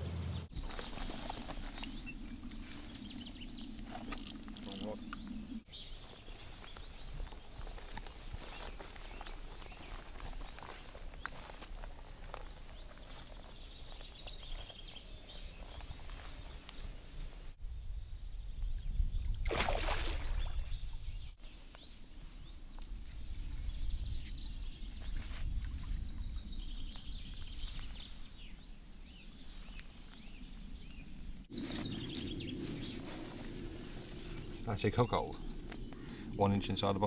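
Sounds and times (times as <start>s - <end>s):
birds chirping: 0.3s - 19.4s, 23.6s - 37.0s.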